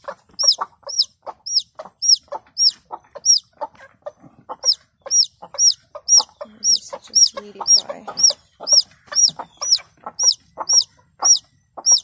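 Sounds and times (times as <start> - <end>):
chick peeping: 0.0 - 12.0
hen clucking: 0.0 - 12.0.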